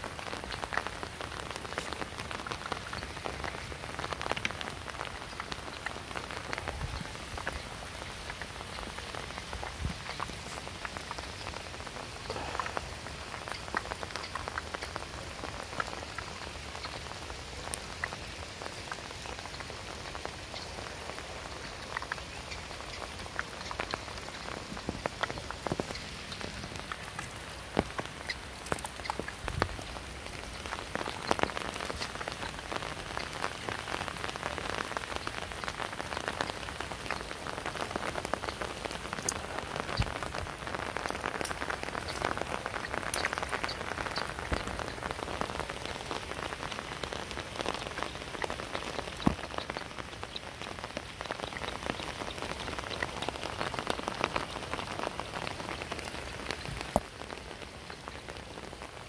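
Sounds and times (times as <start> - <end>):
heavy rain falling on water: 0.0 - 59.0
louder rain taps: 0.0 - 59.0.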